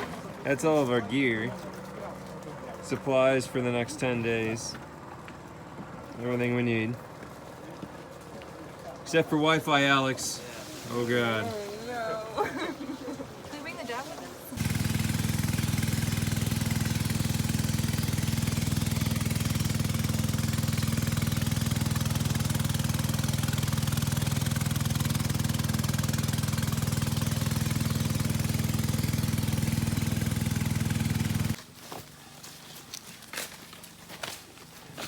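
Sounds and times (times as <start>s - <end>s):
boat motor humming: 0.0s - 31.7s.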